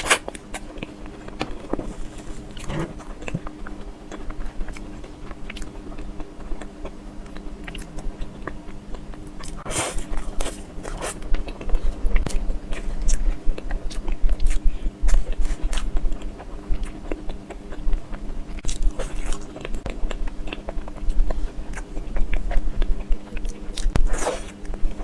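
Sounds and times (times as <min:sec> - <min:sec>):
chewing and biting: 0:00.0 - 0:25.0.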